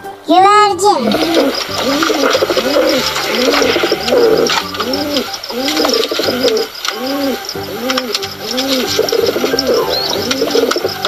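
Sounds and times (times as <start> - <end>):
pigeon cooing: 1.1 - 11.0.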